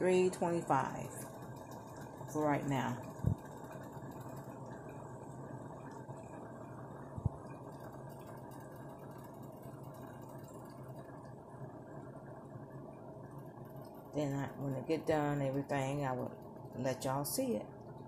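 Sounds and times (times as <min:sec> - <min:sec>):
low kitchen hum: 0:00.0 - 0:18.0.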